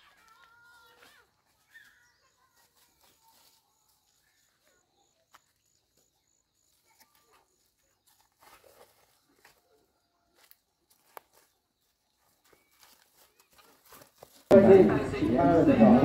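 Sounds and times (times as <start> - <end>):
faint high chirping: 0.0 - 14.0
faint forest ambience: 0.0 - 16.0.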